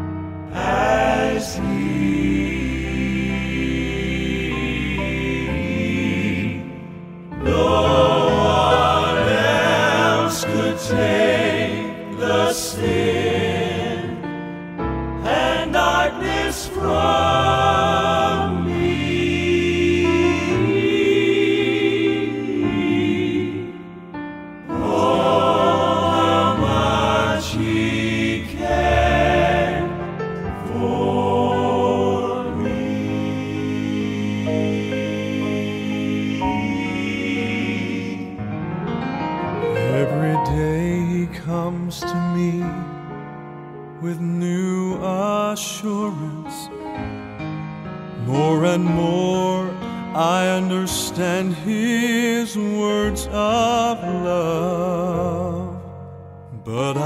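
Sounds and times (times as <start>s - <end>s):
musical accompaniment: 0.0s - 57.0s
male quartet singing in harmony: 0.4s - 38.6s, 39.5s - 43.3s, 44.0s - 57.0s.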